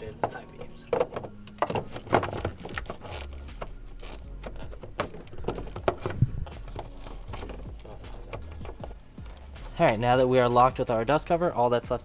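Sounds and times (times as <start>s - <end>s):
plastic cover scraping and clicking: 0.1s - 10.0s.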